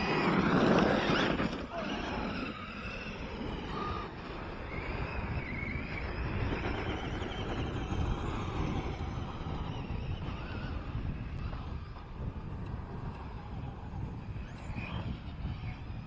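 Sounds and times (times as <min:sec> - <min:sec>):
radio-controlled truck motors whining: 0:00.0 - 0:16.0
wind rumble on microphone: 0:00.0 - 0:16.0.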